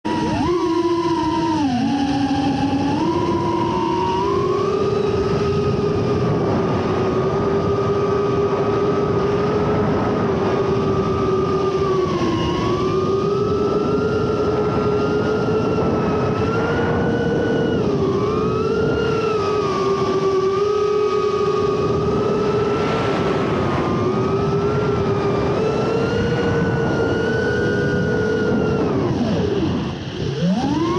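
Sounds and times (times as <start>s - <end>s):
drone motors whining: 0.0s - 30.9s.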